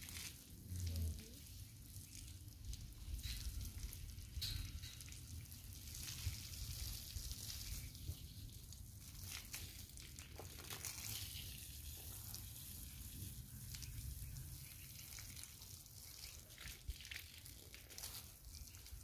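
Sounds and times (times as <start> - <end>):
hose spraying water: 0.0 - 19.0.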